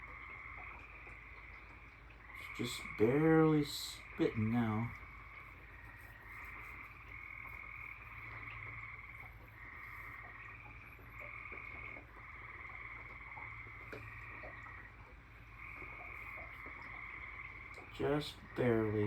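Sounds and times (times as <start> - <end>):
tree frogs trilling: 0.0 - 19.0.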